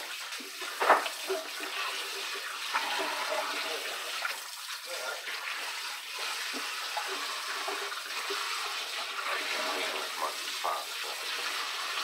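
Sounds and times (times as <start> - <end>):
faucet spraying into a sink: 0.0 - 12.0.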